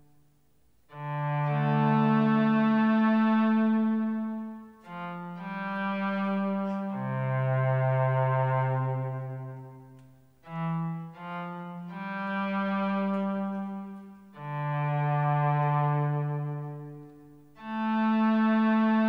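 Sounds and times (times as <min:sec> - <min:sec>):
slow instrumental music: 0:00.0 - 0:19.0.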